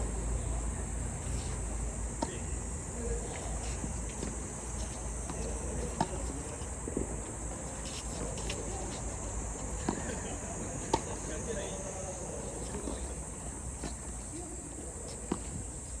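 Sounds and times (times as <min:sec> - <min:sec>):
tennis ball struck by racket: 0:02.2 - 0:02.6, 0:03.2 - 0:16.0.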